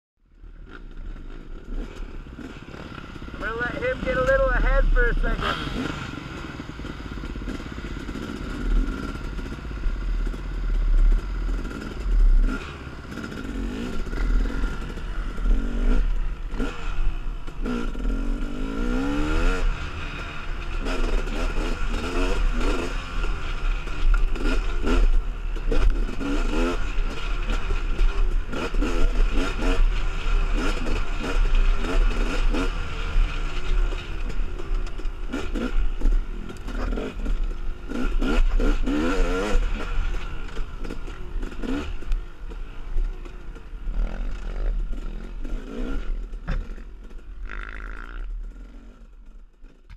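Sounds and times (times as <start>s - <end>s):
dirt bike engine revving: 0.3s - 49.8s.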